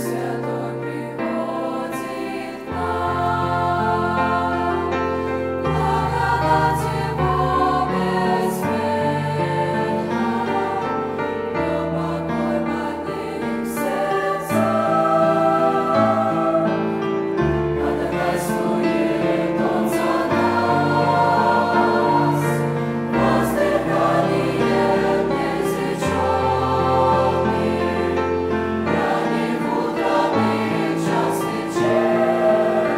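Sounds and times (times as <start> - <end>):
mixed choir singing a hymn: 0.0 - 32.9.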